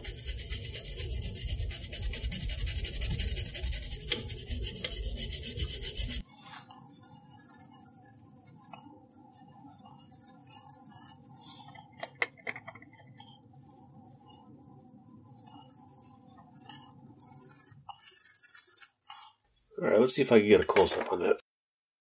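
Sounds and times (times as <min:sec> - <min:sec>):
toothbrush scrubbing circuit board: 0:00.0 - 0:19.4.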